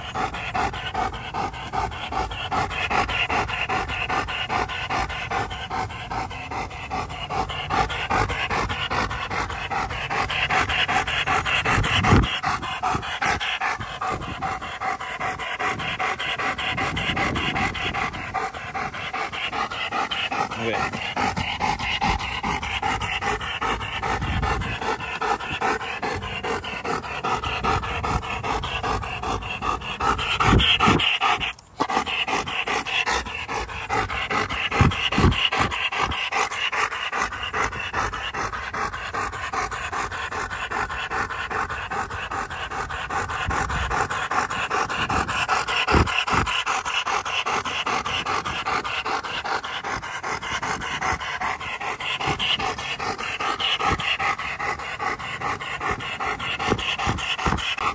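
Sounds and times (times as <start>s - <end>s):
dog panting heavily: 0.0s - 57.9s.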